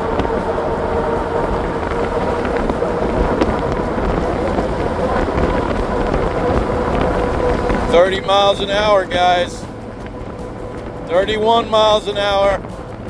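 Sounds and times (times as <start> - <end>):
electric bike motor whine: 0.0 - 13.0
wind rushing on microphone: 0.0 - 13.0.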